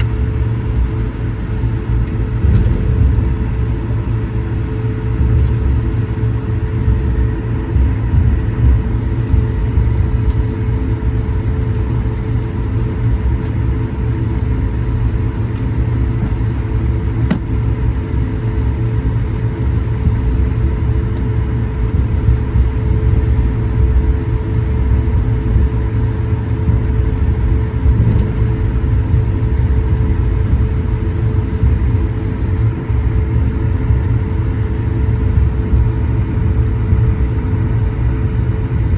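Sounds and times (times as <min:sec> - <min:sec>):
aircraft cabin rumble and hum: 0:00.0 - 0:38.9.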